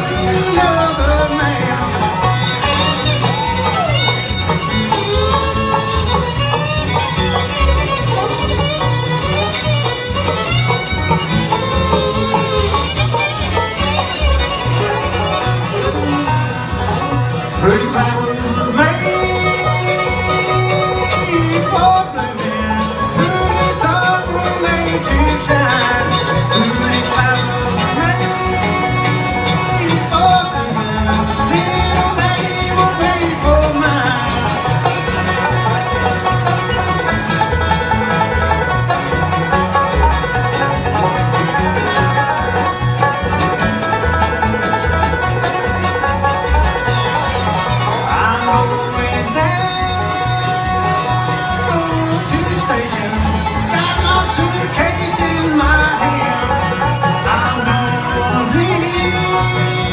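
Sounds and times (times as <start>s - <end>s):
acoustic guitar: 0.0s - 59.9s
banjo: 0.0s - 59.9s
fiddle: 0.0s - 59.9s
upright bass: 0.0s - 59.9s.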